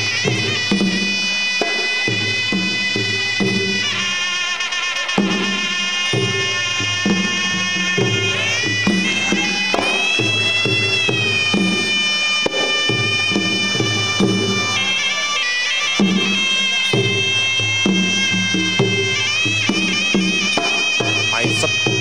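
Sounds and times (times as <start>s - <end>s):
drum beats: 0.0s - 22.0s
reed pipe melody: 0.0s - 22.0s.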